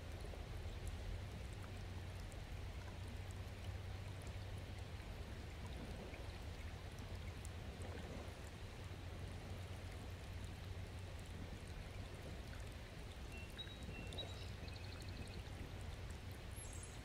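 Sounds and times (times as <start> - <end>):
faint small ticks: 0.0 - 17.0
shallow stream flowing: 0.0 - 17.0.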